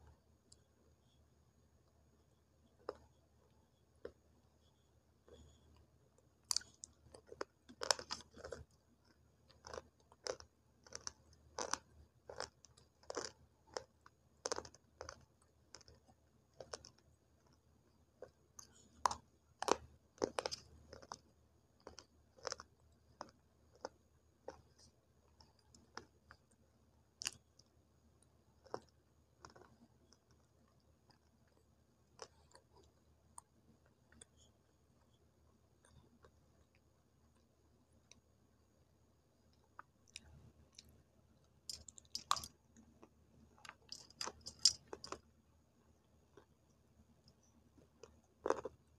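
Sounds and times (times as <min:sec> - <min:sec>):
crunching and chewing: 0:02.8 - 0:03.2, 0:04.0 - 0:04.2, 0:05.2 - 0:35.1, 0:35.8 - 0:38.3, 0:39.5 - 0:45.3, 0:46.0 - 0:48.9.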